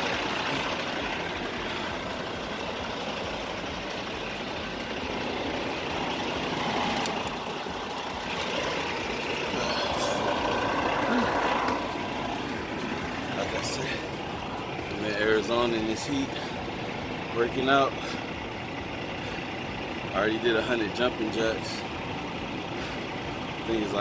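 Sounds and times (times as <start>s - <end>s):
trucks running: 0.0s - 24.0s.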